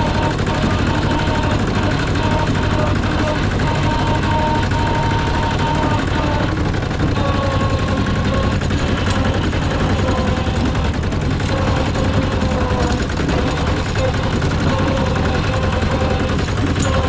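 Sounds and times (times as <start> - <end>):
combine harvester engine running: 0.0 - 17.0
thin steady whine: 0.0 - 17.0.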